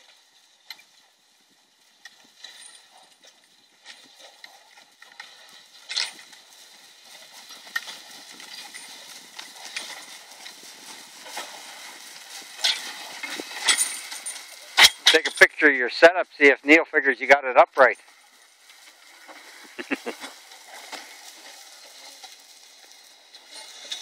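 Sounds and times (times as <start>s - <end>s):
hoofbeats on snow: 0.0s - 24.0s.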